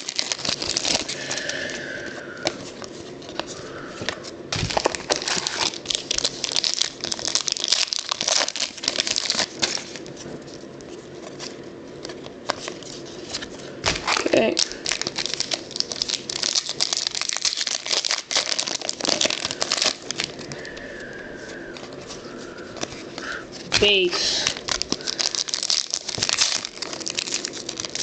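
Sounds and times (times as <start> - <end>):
cards being handled: 0.0 - 28.0
wrappers crinkling and tearing: 0.0 - 28.0.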